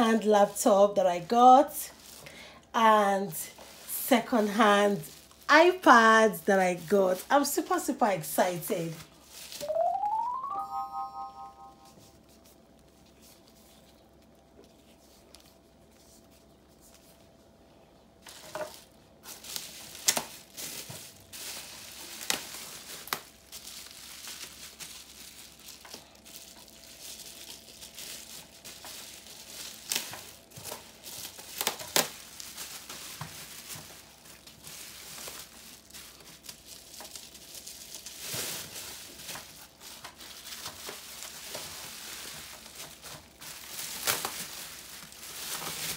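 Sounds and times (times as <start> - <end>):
bubble wrap crinkling: 0.0 - 10.4, 11.8 - 17.6, 18.2 - 45.9.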